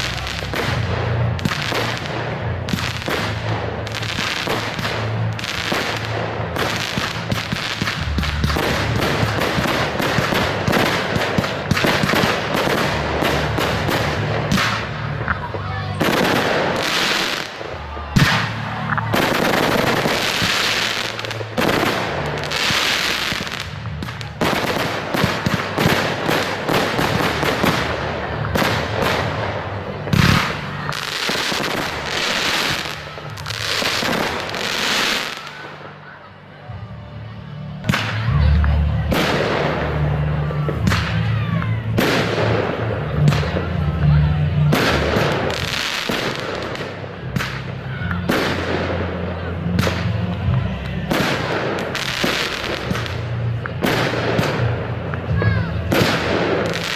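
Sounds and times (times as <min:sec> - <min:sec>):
fireworks bursting and crackling: 0:00.0 - 0:36.6, 0:37.7 - 0:56.9.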